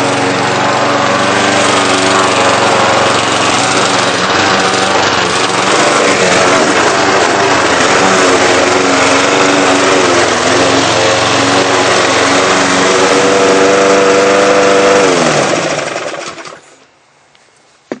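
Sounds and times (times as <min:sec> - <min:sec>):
lawn mower engine running: 0:00.0 - 0:16.8.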